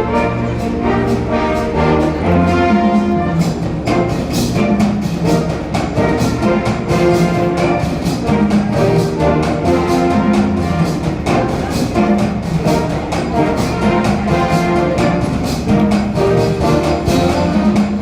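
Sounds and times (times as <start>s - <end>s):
brass band melody: 0.0s - 18.0s
steady drum beat: 0.0s - 18.0s.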